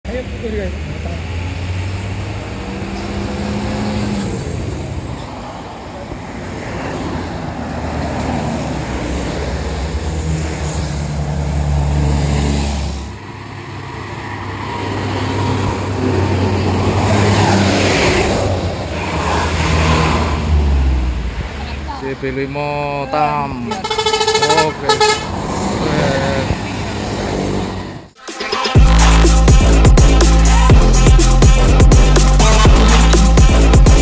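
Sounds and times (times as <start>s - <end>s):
diesel vehicles passing: 0.0s - 34.0s
rush of passing vehicle: 0.1s - 28.2s.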